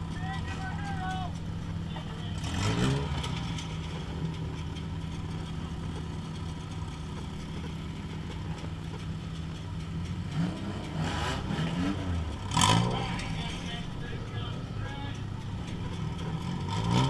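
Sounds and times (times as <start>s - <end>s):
car engine revving and idling: 0.0s - 17.0s.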